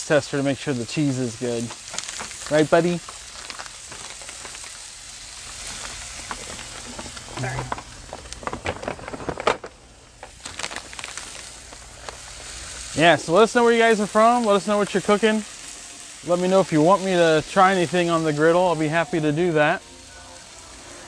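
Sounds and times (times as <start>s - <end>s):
food sizzling on a griddle: 0.0s - 21.0s.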